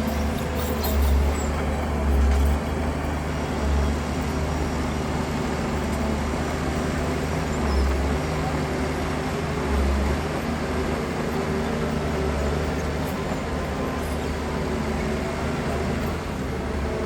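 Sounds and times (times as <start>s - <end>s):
heavy diesel engine rumbling: 0.0s - 17.0s.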